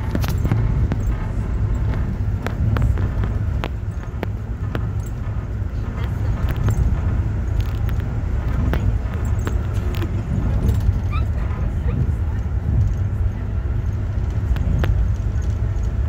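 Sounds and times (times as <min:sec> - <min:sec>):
train ride rumble: 0:00.0 - 0:16.0.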